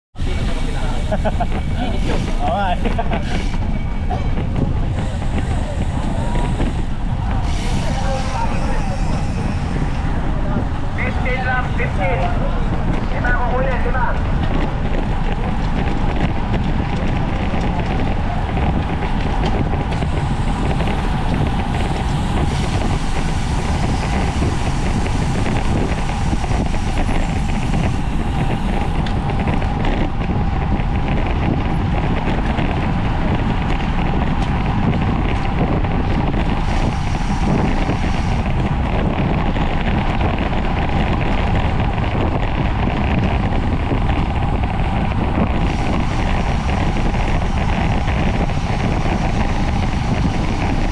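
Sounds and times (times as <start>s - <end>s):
wind rushing over microphone: 0.2s - 50.9s.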